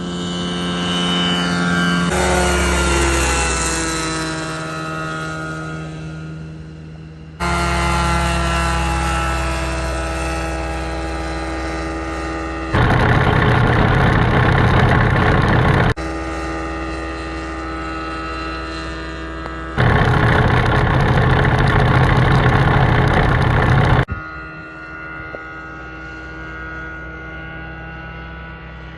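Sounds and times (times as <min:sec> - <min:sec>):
propeller aircraft engine running: 0:00.0 - 0:28.9.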